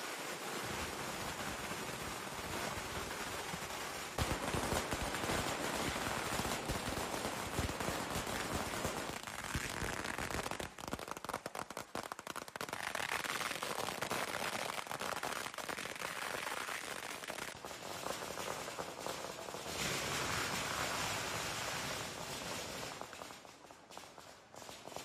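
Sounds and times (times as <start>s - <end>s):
firecrackers crackling: 0.0s - 25.0s.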